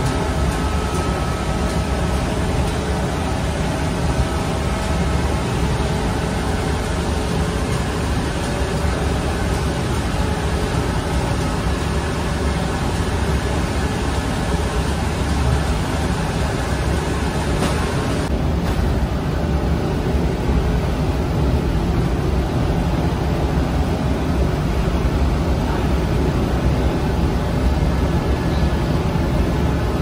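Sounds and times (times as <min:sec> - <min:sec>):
oven low rumble: 0:00.0 - 0:30.0.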